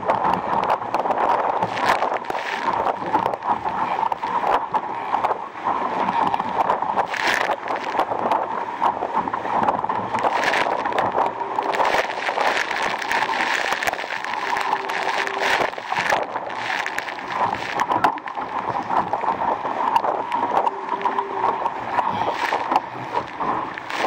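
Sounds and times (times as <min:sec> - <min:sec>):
water rushing along hull: 0:00.0 - 0:24.0.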